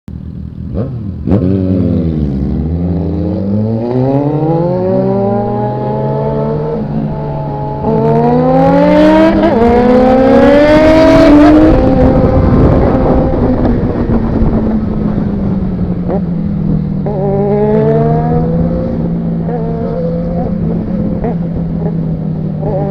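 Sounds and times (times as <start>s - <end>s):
motorcycle engine revving: 0.1s - 22.9s.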